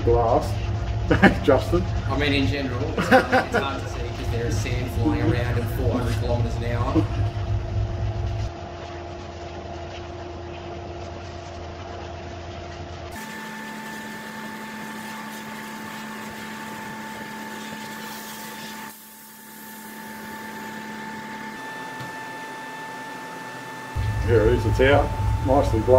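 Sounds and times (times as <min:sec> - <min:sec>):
machine hum: 0:00.0 - 0:25.9.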